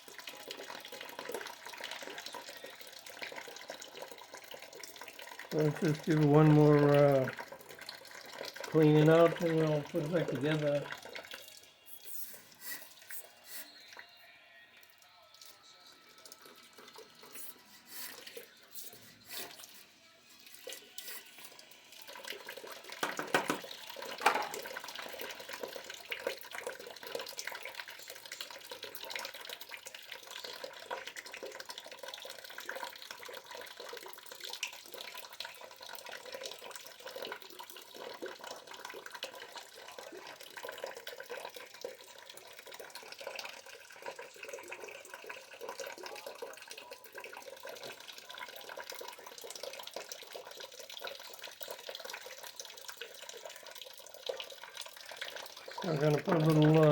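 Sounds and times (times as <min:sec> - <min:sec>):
hot water gushing from drain: 0:00.0 - 0:14.2, 0:16.0 - 0:56.9.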